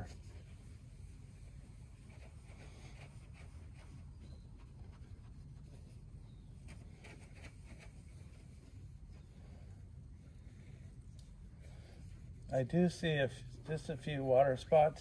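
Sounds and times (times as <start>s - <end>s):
pad rubbing wax on surface: 0.0s - 15.0s.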